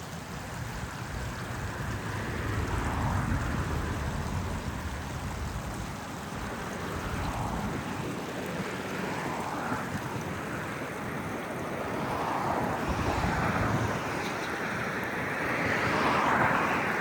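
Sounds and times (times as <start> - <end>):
road traffic: 0.0 - 17.0
stream water rushing: 0.0 - 17.0.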